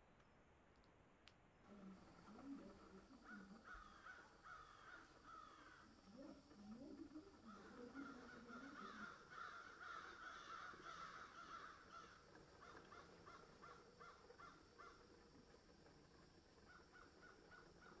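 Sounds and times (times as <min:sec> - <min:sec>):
faint bird calls: 0:01.7 - 0:18.0.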